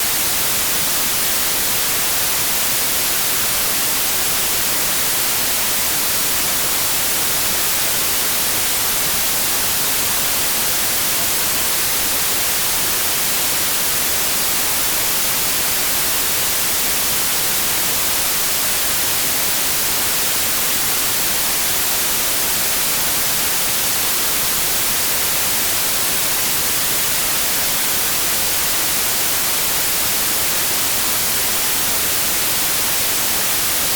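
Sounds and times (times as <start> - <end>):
steady white noise hiss: 0.0 - 33.9.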